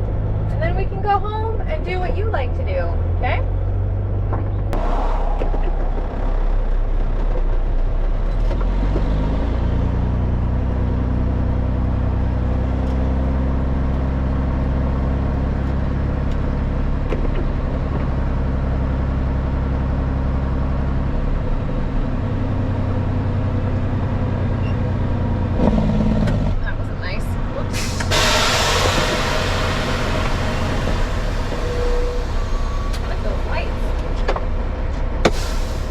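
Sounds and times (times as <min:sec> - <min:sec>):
truck diesel engine pulling away: 0:05.8 - 0:35.9.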